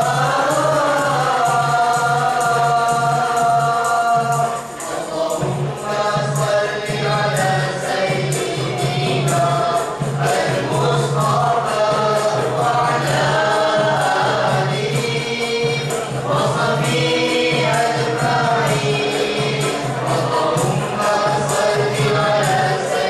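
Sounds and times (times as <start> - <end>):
boys singing into microphones: 0.0 - 23.0
light percussion beat: 0.0 - 23.0.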